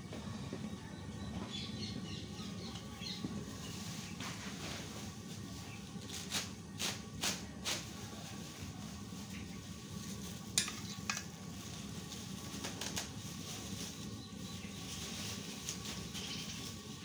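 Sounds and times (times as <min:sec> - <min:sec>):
pot boiling with bubbling hiss: 0:00.0 - 0:17.0.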